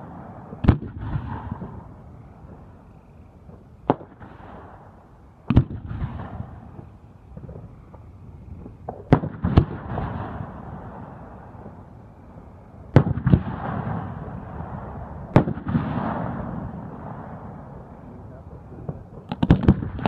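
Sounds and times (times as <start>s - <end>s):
fireworks bursting with echo: 0.0s - 20.0s.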